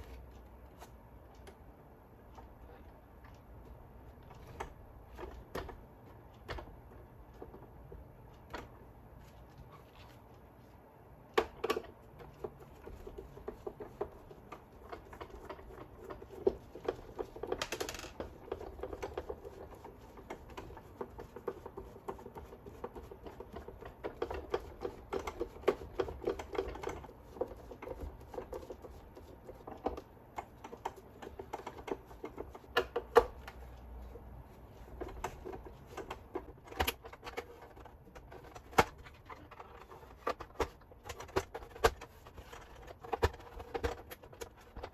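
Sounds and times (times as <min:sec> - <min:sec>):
plastic mechanism clicks and rattles: 0:02.2 - 0:10.2, 0:11.3 - 0:34.1, 0:34.7 - 0:44.9.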